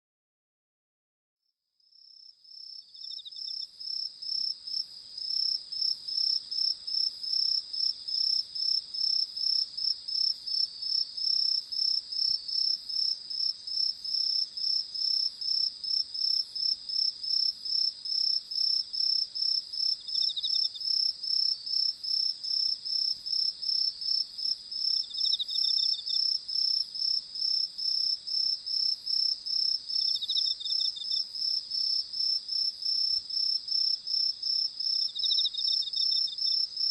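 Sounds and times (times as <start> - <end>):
crickets chirping: 1.9 - 36.9
low insect trill: 2.4 - 36.9.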